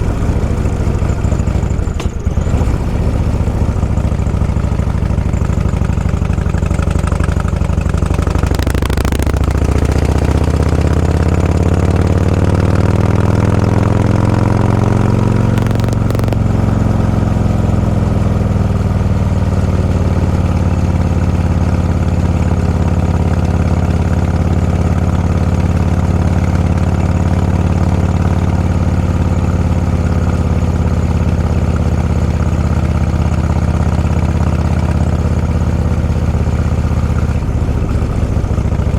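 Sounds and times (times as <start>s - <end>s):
vehicle engine accelerating: 0.0s - 38.9s.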